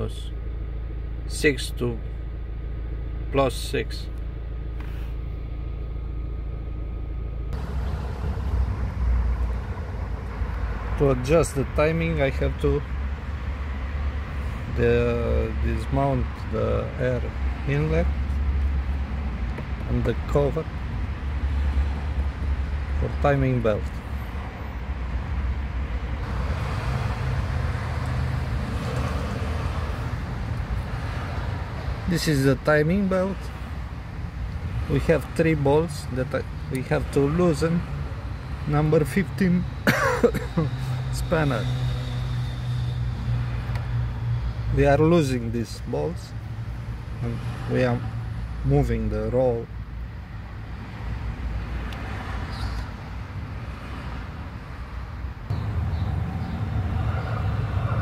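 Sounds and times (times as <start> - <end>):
diesel engine idling: 0.0 - 47.2.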